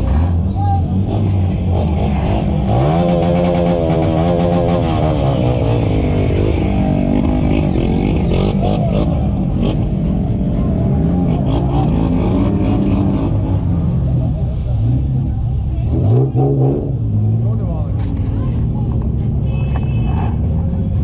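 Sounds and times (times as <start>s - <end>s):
off-road engines revving: 0.0s - 21.0s.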